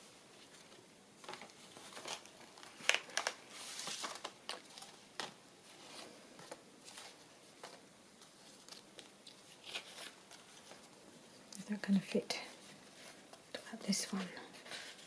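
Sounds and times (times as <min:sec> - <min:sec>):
paper and card rustling: 0:00.4 - 0:11.0, 0:12.4 - 0:15.0.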